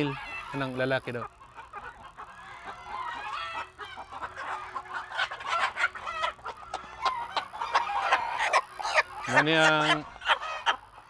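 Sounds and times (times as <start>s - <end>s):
chickens clucking and squawking: 0.0s - 11.0s.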